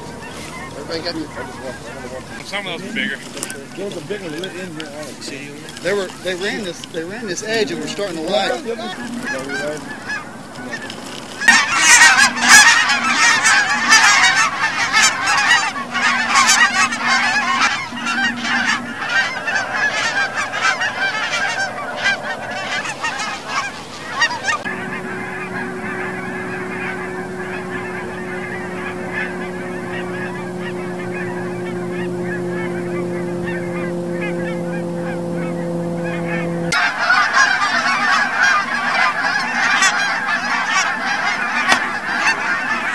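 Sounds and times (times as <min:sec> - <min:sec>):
geese honking: 0:00.0 - 0:42.9
steady low hum with tones: 0:00.0 - 0:42.9.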